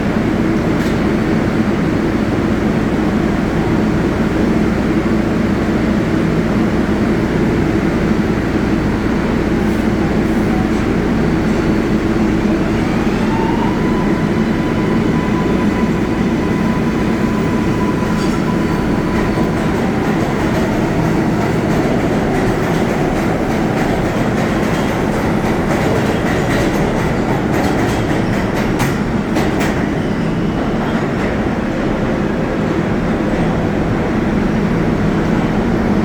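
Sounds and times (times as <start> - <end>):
subway train rumble: 0.0 - 36.0.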